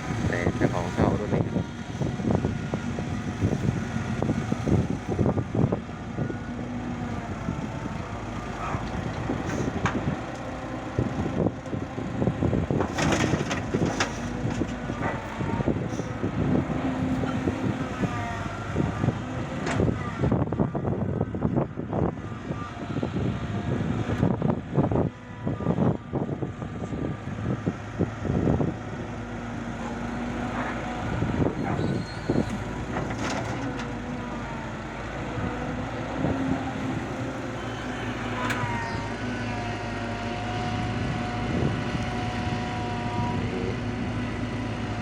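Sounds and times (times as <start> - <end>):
heavy diesel machinery running: 0.0 - 45.0.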